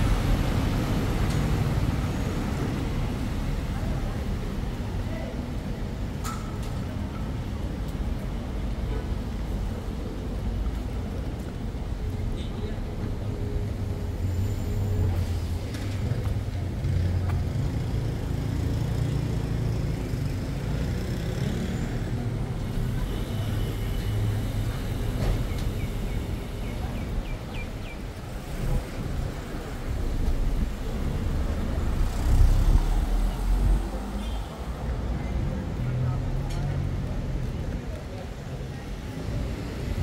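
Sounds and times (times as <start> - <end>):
traffic engines rumbling: 0.0 - 40.0.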